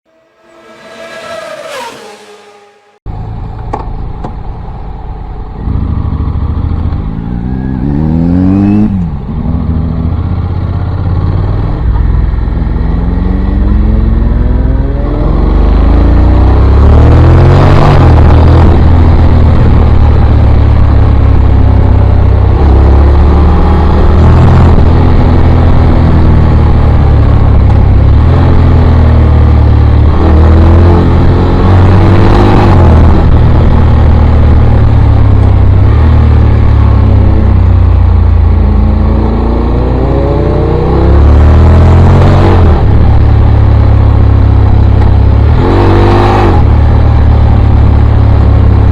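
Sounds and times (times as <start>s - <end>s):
motorcycle engine accelerating: 0.1s - 4.8s, 5.4s - 48.9s.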